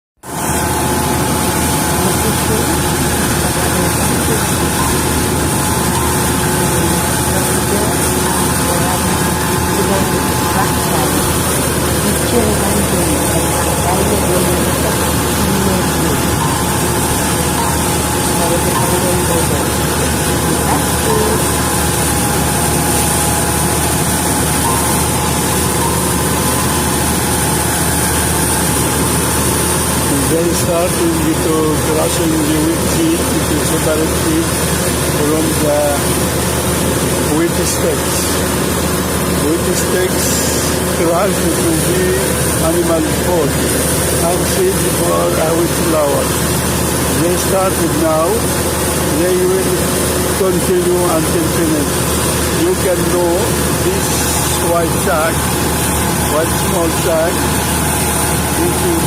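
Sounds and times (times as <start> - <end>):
engine drone: 0.2 - 59.0
threshing machine running: 0.2 - 59.0.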